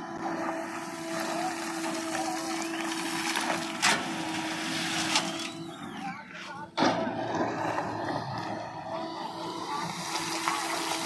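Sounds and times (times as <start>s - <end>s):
diesel machinery engine whining: 0.0s - 11.0s.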